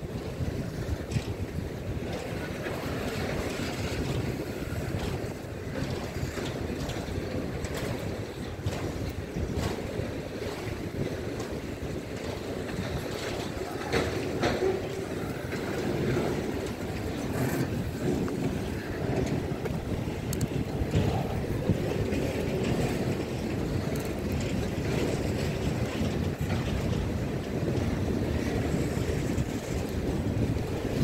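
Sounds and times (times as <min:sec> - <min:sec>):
train clicks: 0:00.0 - 0:31.0
train wheels rumbling on rails: 0:00.0 - 0:31.0.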